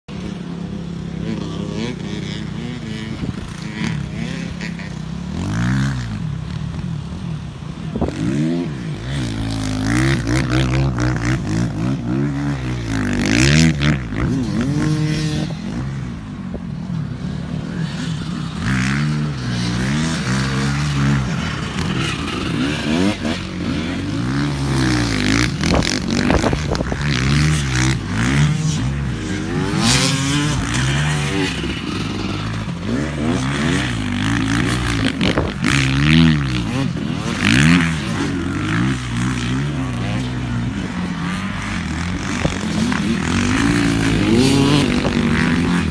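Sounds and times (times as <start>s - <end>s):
dirt bike engines revving: 0.1s - 45.9s.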